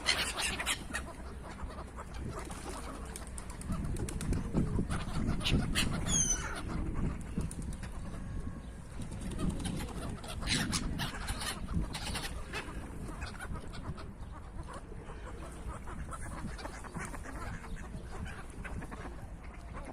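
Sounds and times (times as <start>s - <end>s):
ducks quacking and birds squawking: 0.0s - 19.9s.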